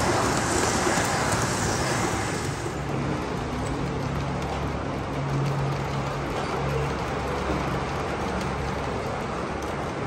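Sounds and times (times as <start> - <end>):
model train rolling rumble: 0.0 - 10.0.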